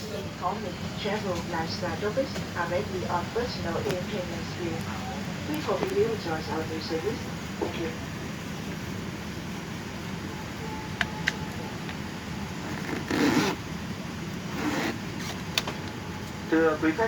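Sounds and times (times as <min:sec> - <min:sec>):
airliner cabin ventilation noise: 0:00.0 - 0:17.0.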